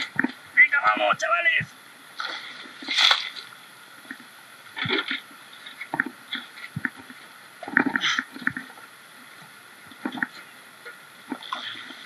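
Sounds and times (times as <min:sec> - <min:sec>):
water splashing: 0:00.0 - 0:08.9, 0:09.9 - 0:12.0.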